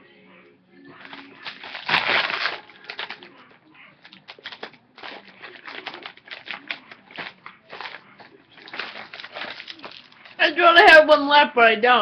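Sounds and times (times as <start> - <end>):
plastic packaging rustling: 0.9 - 10.6.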